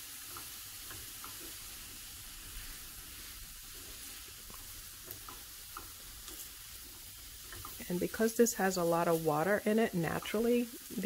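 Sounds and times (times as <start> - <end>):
vegetables sizzling in a pan: 0.0 - 11.0
spatula scraping a pan: 0.1 - 9.2.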